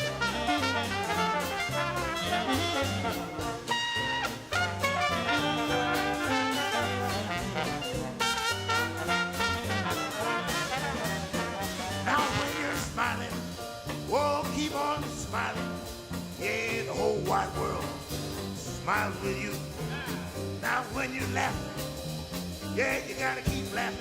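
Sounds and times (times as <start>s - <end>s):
swing music with brass: 0.0s - 24.0s.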